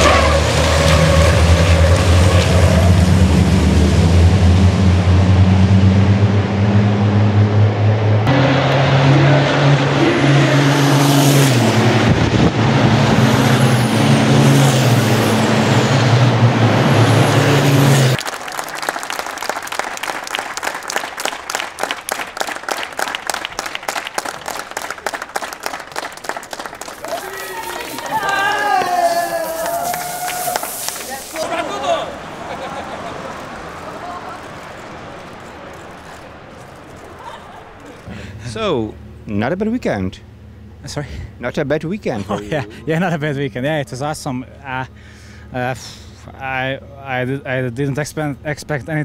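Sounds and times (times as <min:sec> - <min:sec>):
racing truck diesel engines: 0:00.0 - 0:49.0.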